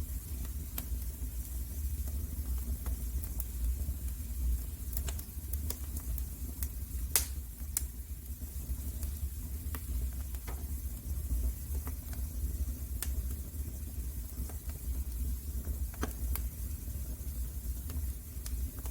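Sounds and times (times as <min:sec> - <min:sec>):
low rumble of burning: 0:00.0 - 0:18.9
wood fire crackling and popping: 0:00.0 - 0:18.9.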